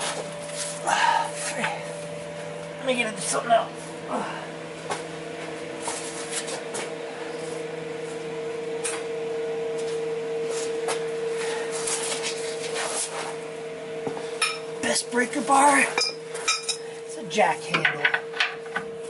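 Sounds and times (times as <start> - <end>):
electric hum: 0.0 - 19.0.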